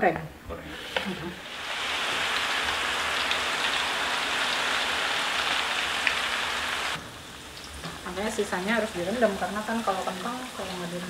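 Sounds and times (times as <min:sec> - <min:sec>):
potato strands deep-frying in oil: 0:00.7 - 0:11.0.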